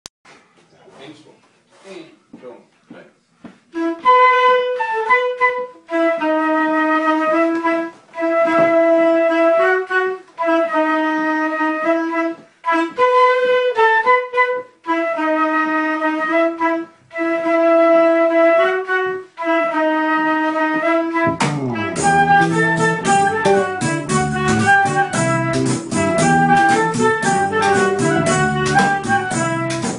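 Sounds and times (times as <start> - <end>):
wind instrument slow melody: 3.7 - 29.8.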